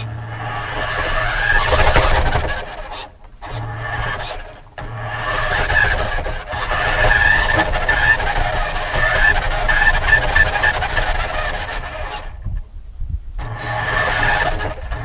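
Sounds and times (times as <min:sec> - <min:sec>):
rc car motor whine: 0:00.0 - 0:12.6, 0:13.4 - 0:15.0
wheels rolling on rough ground: 0:00.0 - 0:15.0.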